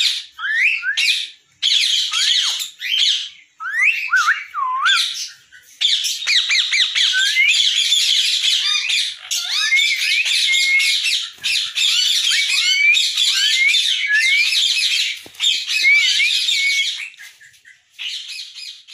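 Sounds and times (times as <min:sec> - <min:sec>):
parrots whistling and squawking: 0:00.0 - 0:18.9.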